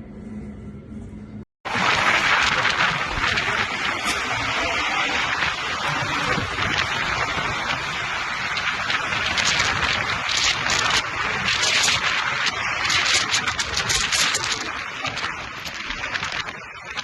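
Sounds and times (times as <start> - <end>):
strong wind on microphone: 1.7 - 17.0.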